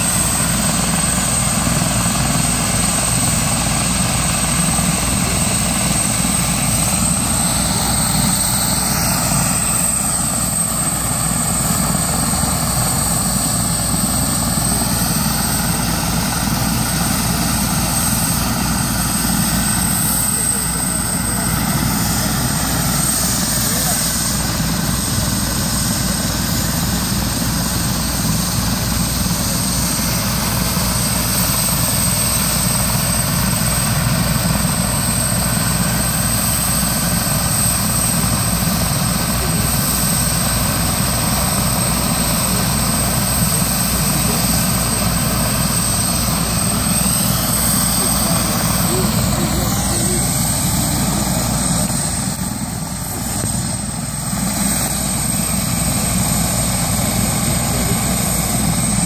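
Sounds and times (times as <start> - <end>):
helicopter rotor beat: 0.0 - 59.0
high turbine whine: 0.0 - 59.0.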